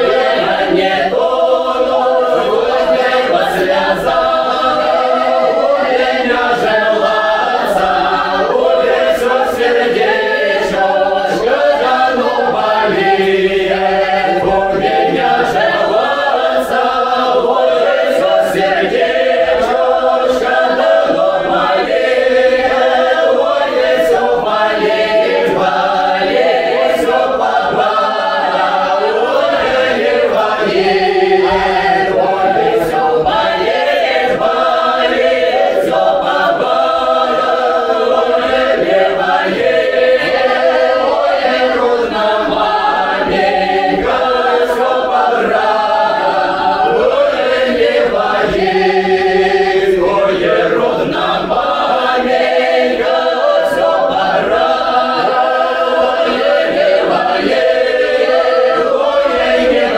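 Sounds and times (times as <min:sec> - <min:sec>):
mixed choir singing folk song: 0:00.0 - 0:59.9.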